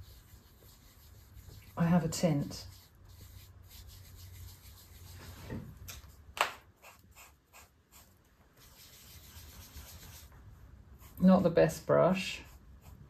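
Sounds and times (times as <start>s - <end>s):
soft paintbrush dabs: 0.0s - 6.2s, 6.8s - 13.0s.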